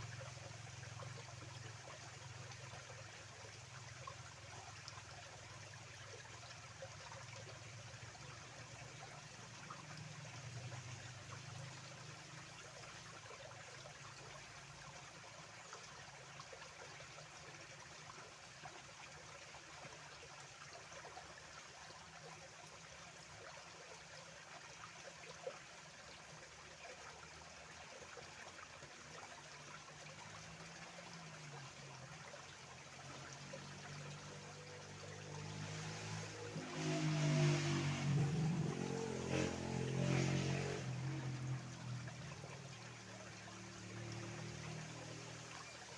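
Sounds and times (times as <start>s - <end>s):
stream water trickling: 0.0s - 45.9s.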